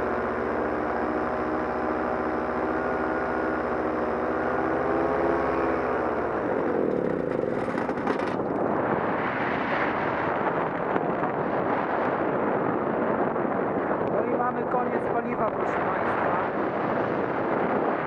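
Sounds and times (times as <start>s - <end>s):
two-stroke paramotor engine: 0.0s - 18.0s
wind rush: 0.0s - 18.0s.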